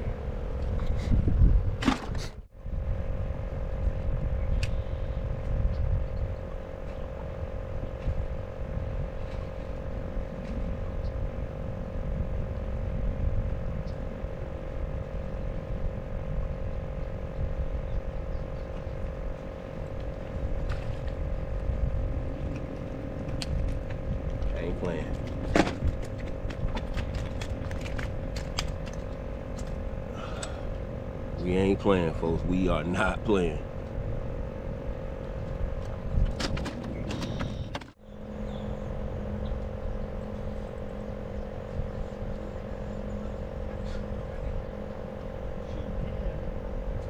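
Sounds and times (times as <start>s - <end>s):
low rumble: 0.0s - 47.0s
mechanical hum: 0.0s - 47.0s.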